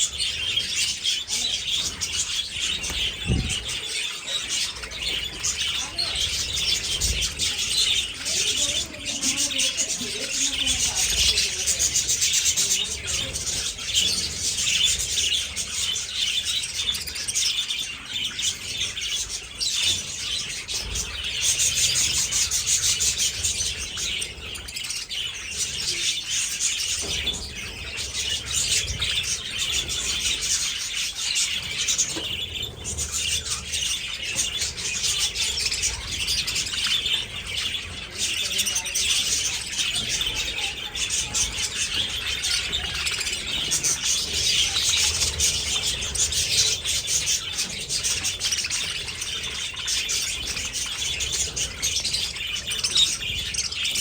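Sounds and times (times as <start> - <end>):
budgies chattering and chirping: 0.0 - 54.0.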